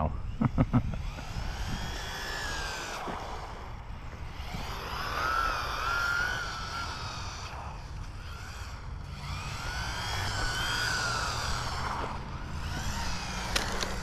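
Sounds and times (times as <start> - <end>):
rc car electric motor whine: 0.0 - 14.0.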